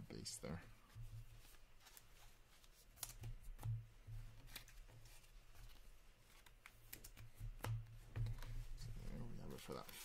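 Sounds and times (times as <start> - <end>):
cards slapping and rustling: 1.2 - 10.0.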